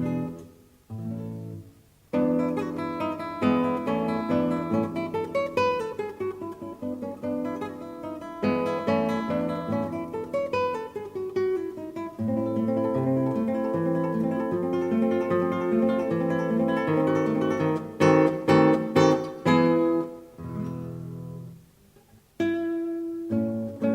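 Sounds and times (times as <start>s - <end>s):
acoustic guitar music: 0.0s - 23.9s.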